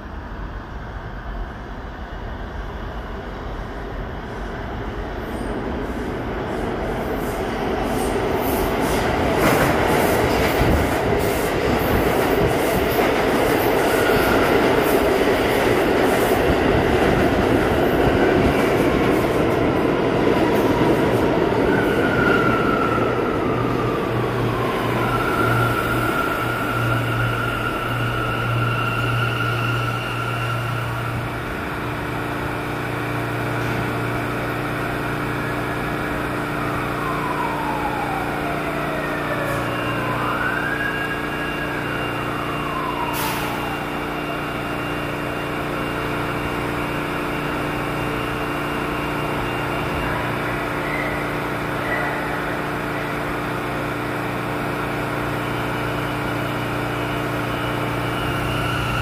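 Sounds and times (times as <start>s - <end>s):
subway train electrical hum: 0.0s - 59.0s.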